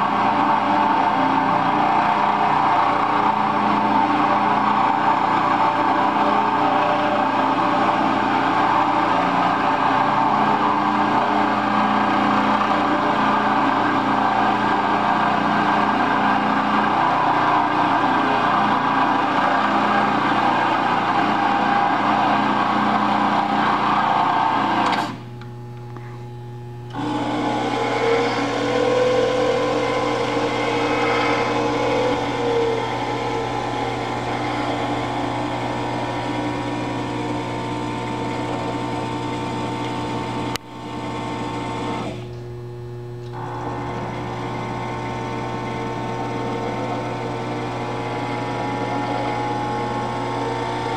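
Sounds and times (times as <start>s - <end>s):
electric gear drive whirring: 0.0s - 25.9s, 26.8s - 50.9s.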